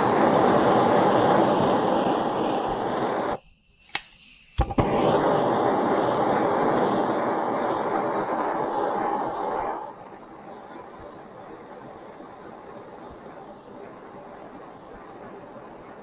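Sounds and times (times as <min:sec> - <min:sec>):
soldering torch flame roaring: 0:00.0 - 0:16.0.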